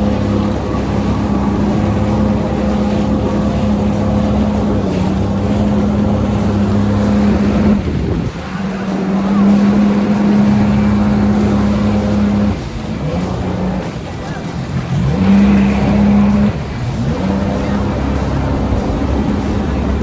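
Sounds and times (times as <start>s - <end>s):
jet ski engine running: 0.0s - 20.0s
water rushing: 0.0s - 20.0s.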